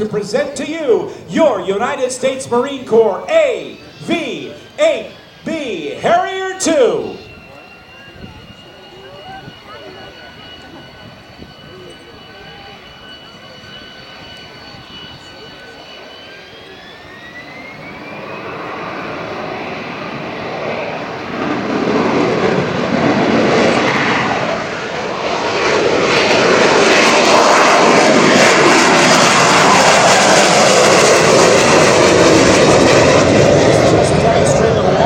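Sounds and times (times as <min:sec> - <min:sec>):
jet engine at high power: 0:00.0 - 0:35.0.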